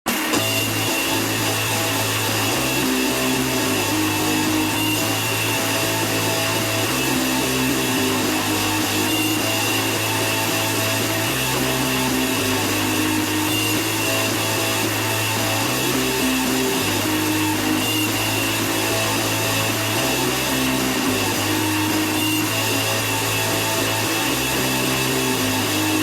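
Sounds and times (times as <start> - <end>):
heavily distorted guitar: 0.1 - 26.0.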